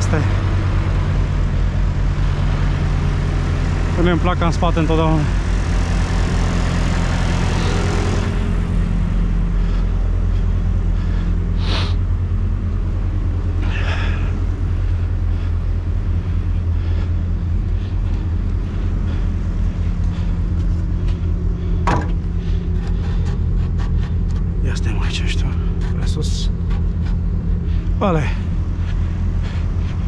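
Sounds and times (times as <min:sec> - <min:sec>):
truck diesel engine idling: 0:00.0 - 0:30.0.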